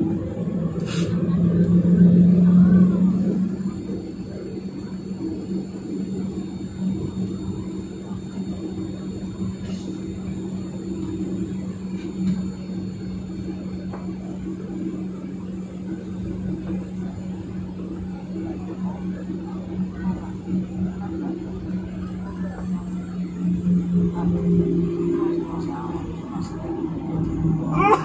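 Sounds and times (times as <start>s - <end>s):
jet engines idling drone: 0.0s - 28.0s.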